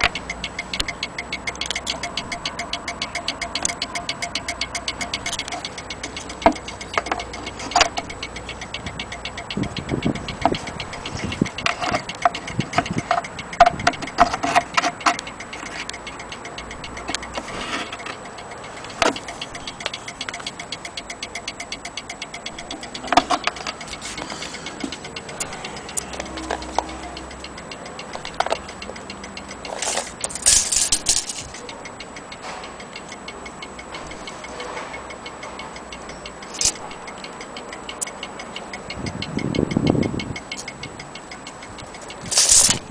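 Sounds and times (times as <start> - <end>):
clock ticking: 0.0 - 42.9
irregular clicks and knocks: 0.0 - 42.9.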